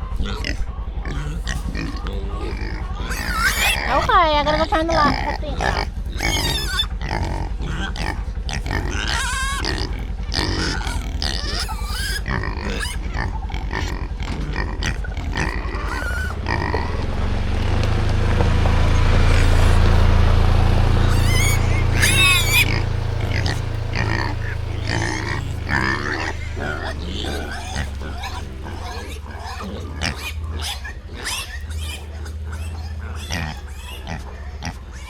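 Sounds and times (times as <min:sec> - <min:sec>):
pigs grunting and squealing: 0:00.0 - 0:18.2, 0:18.8 - 0:35.0
low rumble: 0:00.0 - 0:35.0.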